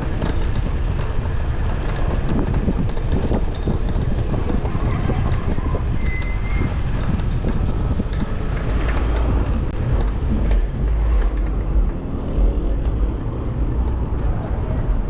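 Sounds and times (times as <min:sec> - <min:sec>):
road traffic passing: 0:00.0 - 0:15.0
wind rumble on microphone: 0:00.0 - 0:15.0.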